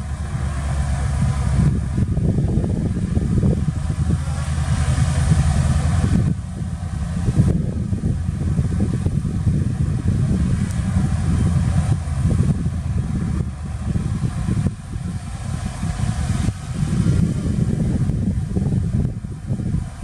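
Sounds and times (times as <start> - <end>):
diesel machinery engine rumble: 0.0 - 20.0.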